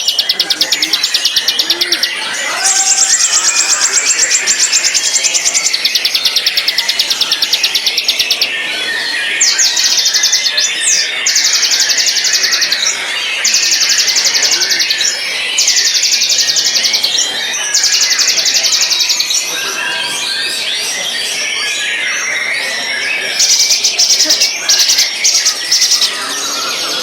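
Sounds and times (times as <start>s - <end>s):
bird singing with whistles and trills: 0.0s - 27.0s.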